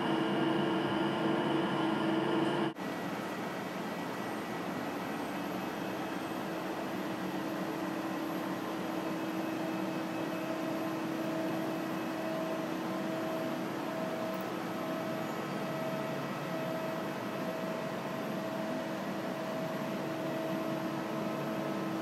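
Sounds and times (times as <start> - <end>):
machine shop equipment humming: 0.0 - 22.0.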